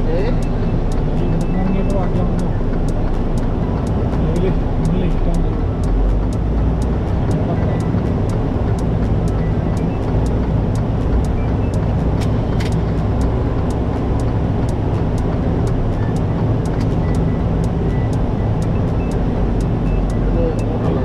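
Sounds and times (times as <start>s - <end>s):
truck engine and road drone: 0.0s - 21.0s
faint regular ticks: 0.4s - 20.2s.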